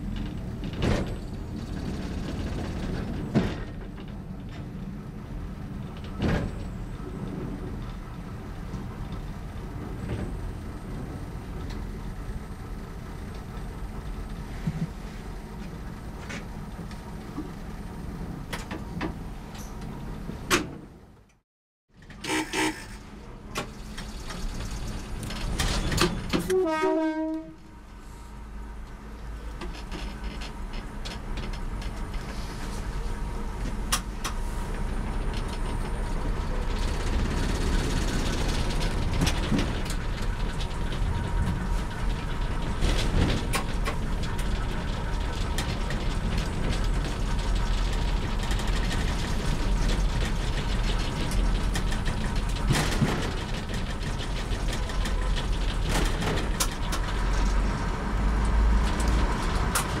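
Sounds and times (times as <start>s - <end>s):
diesel train engine drone: 0.0s - 21.4s, 22.0s - 60.0s.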